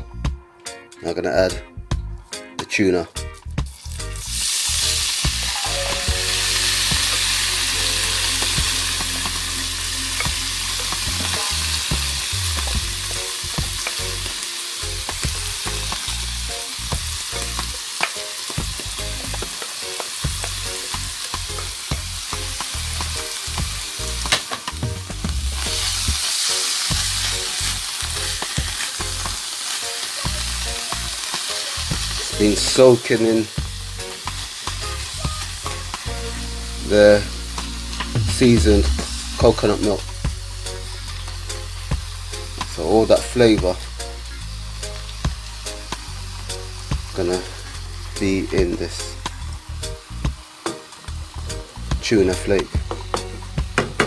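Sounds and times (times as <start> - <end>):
tuna sizzling in hot oil: 3.6 - 54.0.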